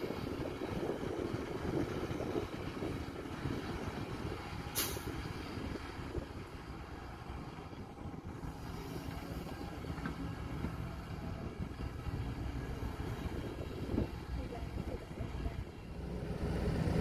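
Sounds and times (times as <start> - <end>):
distant excavator engine rumble: 0.0 - 17.0.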